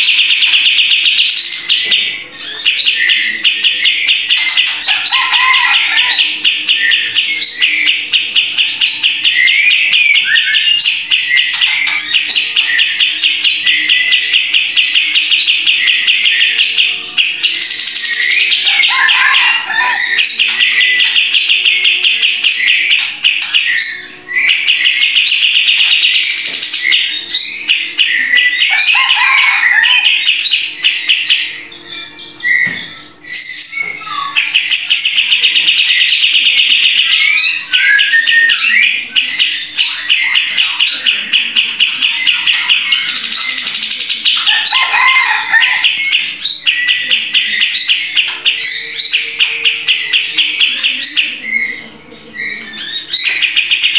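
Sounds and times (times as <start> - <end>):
bird chattering and whistling: 0.0 - 53.9
bird singing rattling trills: 0.0 - 53.9.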